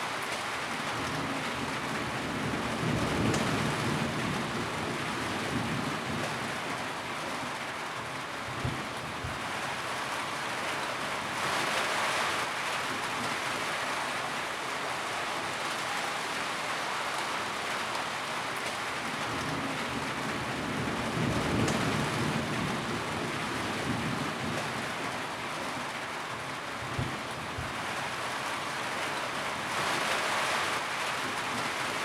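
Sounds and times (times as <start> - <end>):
rain on a tin roof: 0.0 - 32.0.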